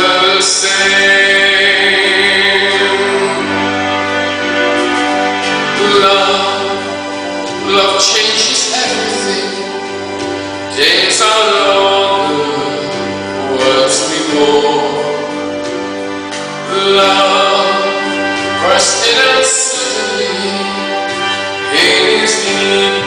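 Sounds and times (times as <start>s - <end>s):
man singing a ballad: 0.0s - 23.0s
musical accompaniment: 0.0s - 23.0s.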